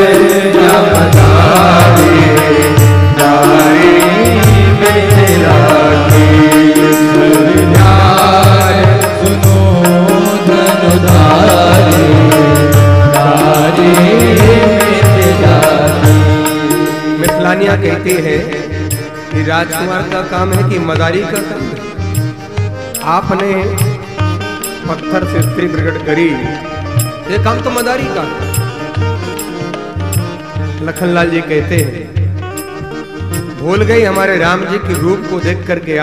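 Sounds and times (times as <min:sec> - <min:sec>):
hand drum rhythm: 0:00.0 - 0:26.0, 0:26.9 - 0:35.3
held instrumental tones: 0:00.0 - 0:36.0
person singing devotional song: 0:00.0 - 0:36.0.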